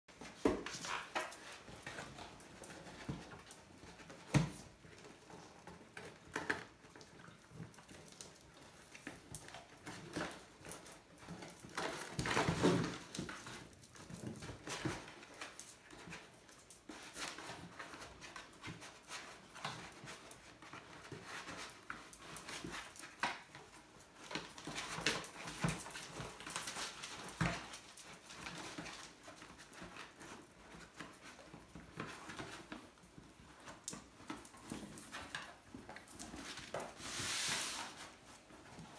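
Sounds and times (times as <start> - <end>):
paws pattering on hard floor: 0.1 - 38.9.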